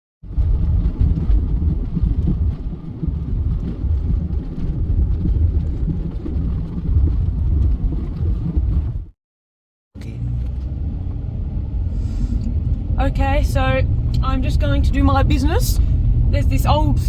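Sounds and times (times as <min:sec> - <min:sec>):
vehicle engine rumbling: 0:00.2 - 0:09.1, 0:10.0 - 0:17.0.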